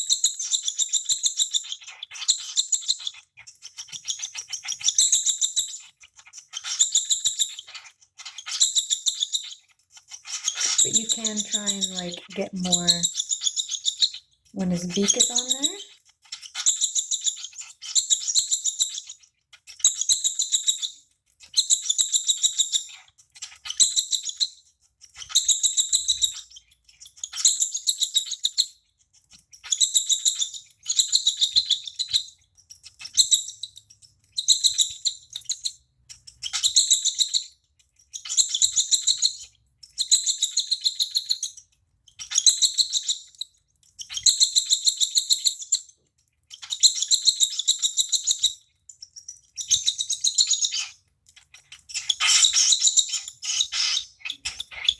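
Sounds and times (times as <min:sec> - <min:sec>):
baby bird begging chirps: 0:00.1 - 0:20.9, 0:21.5 - 0:28.8, 0:29.6 - 0:54.9.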